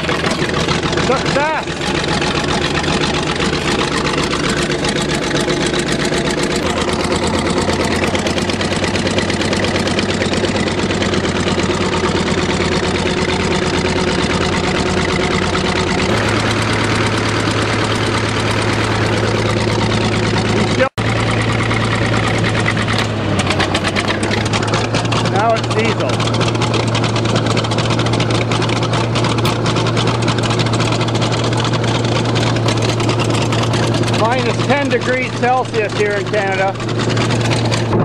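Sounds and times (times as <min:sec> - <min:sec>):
bulldozer engine running: 0:00.0 - 0:38.0.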